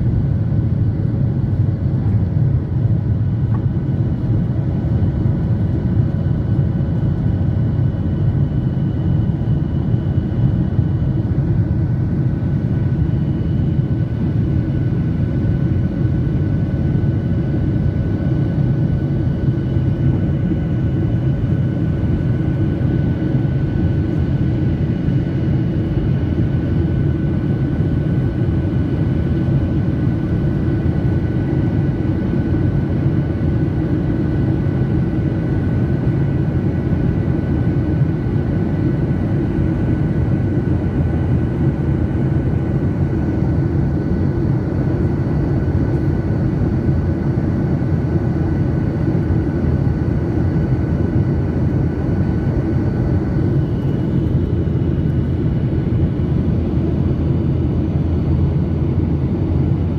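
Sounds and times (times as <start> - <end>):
jet engine and airflow roar: 0.0 - 59.9.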